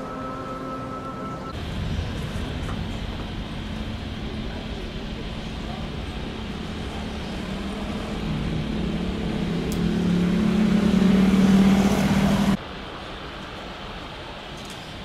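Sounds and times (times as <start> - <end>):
jet engines droning: 0.0 - 15.0.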